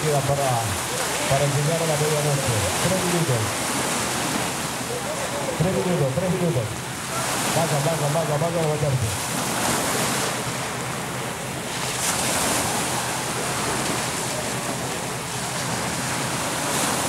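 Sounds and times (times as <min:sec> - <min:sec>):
small waves washing onto shore: 0:00.0 - 0:17.0.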